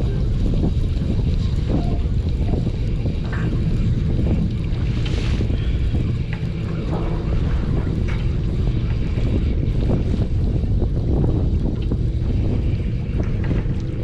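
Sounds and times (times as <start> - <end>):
water against boat hull: 0.0 - 14.0
wind buffeting microphone: 0.0 - 14.0.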